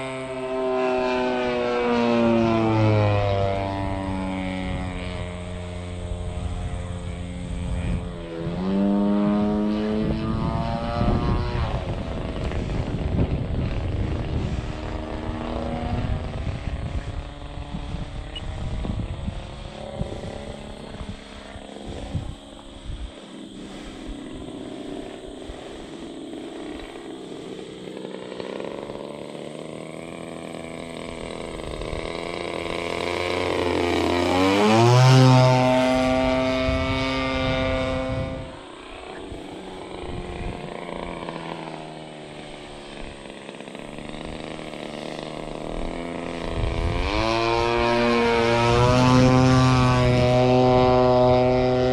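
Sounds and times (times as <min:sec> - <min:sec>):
model plane motor whining: 0:00.0 - 0:51.9
wind buffeting microphone: 0:01.2 - 0:51.9.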